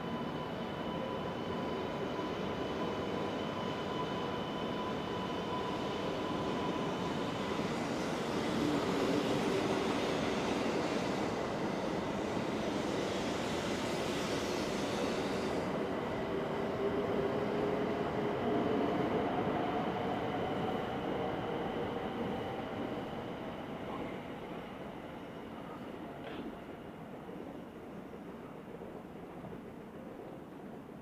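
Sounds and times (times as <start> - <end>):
train electric hum: 0.0 - 31.0.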